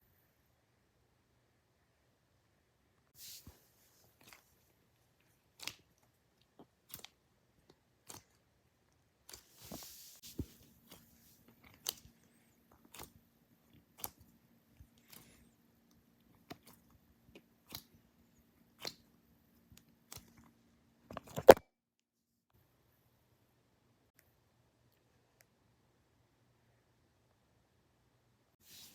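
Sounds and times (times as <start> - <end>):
faint steady hum: 0.0 - 21.2, 22.6 - 28.9.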